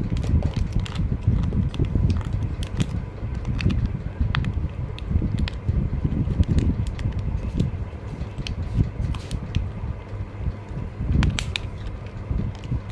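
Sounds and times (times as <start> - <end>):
plastic and foil crinkling: 0.0 - 9.6, 11.2 - 12.9
low uneven rumble: 0.0 - 12.9.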